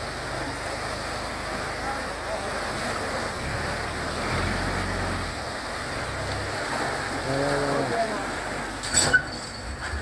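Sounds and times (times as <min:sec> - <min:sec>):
boat engine hum: 0:00.0 - 0:10.0
water rushing through sluice: 0:00.0 - 0:10.0.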